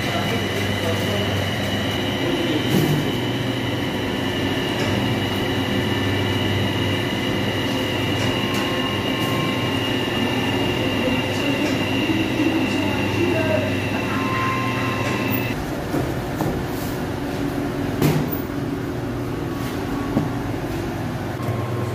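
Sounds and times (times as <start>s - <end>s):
machinery hum with high whine: 0.0s - 21.9s.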